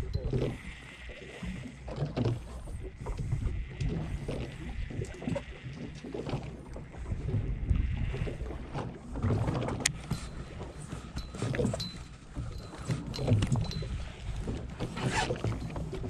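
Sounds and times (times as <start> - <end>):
wind on the microphone: 0.0 - 0.8, 1.4 - 16.0
water moving around a boat hull: 0.0 - 16.0.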